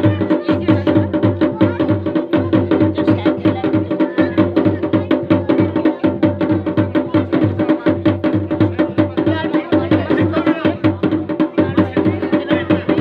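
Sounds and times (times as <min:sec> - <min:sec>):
drums playing fast rhythm: 0:00.0 - 0:13.0.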